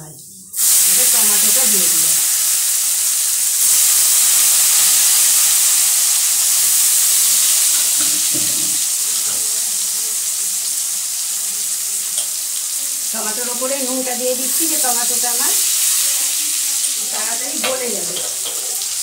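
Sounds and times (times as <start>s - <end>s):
tomatoes sizzling in hot oil: 0.6s - 19.0s.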